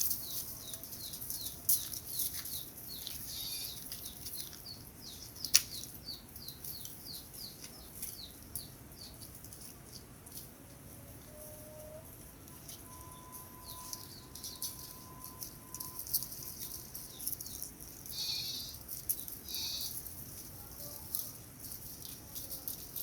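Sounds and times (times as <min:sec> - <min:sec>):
small bird chirping: 0:00.0 - 0:10.0, 0:11.3 - 0:20.1.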